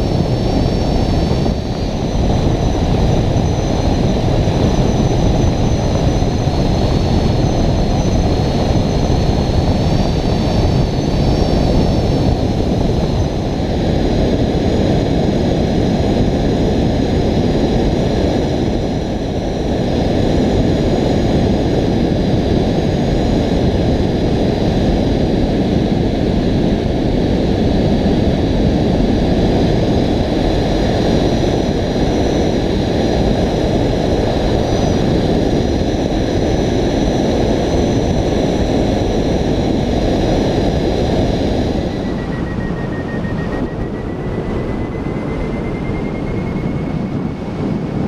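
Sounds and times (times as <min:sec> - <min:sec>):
wind rush over microphone: 0:00.0 - 0:48.0.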